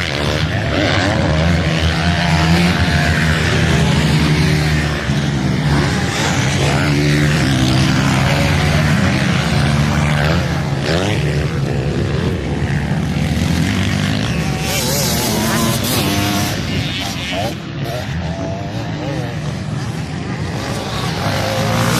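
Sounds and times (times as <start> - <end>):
motocross bike engines revving: 0.0 - 21.9.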